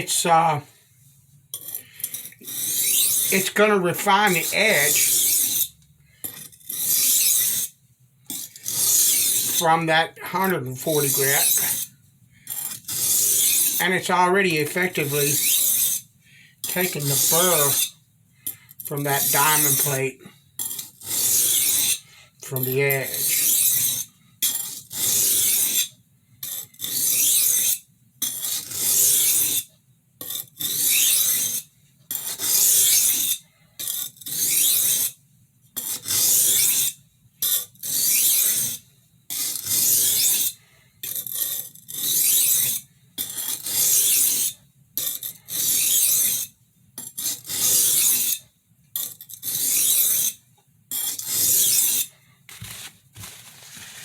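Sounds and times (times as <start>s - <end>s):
knife rasping on sharpening stone: 1.5s - 9.8s, 10.9s - 11.9s, 12.5s - 14.0s, 14.6s - 20.0s, 20.6s - 35.2s, 35.8s - 48.4s, 49.0s - 52.1s.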